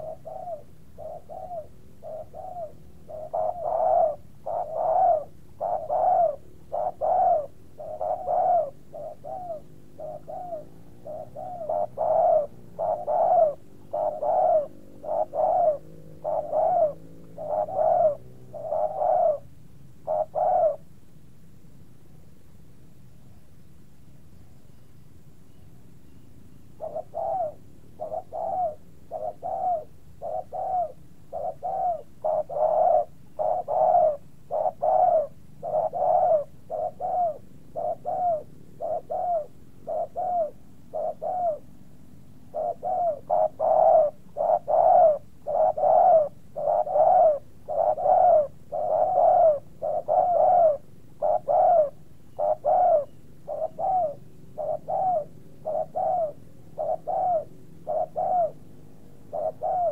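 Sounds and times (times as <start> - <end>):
dove cooing: 0.0 - 20.9, 26.7 - 59.9.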